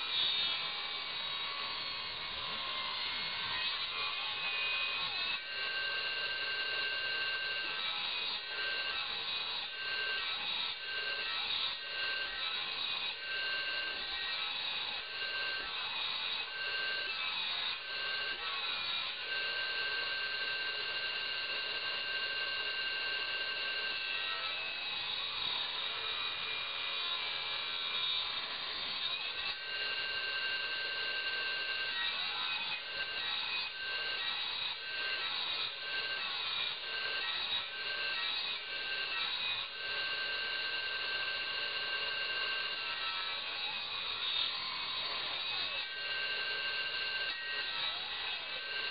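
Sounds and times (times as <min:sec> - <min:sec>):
circular saw blade whine: 0:00.0 - 0:48.9.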